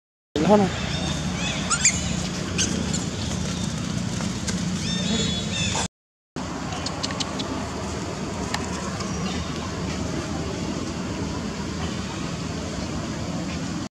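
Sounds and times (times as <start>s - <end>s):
low outdoor background noise: 0.4s - 13.9s.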